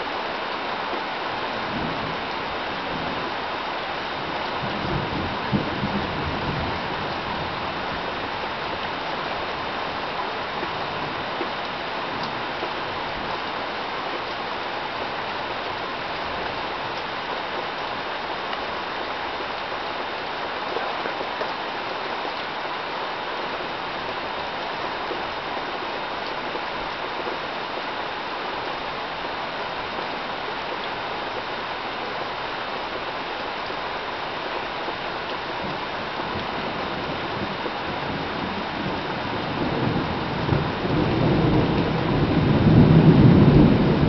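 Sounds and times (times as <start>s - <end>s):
rain falling steadily: 0.0s - 44.0s.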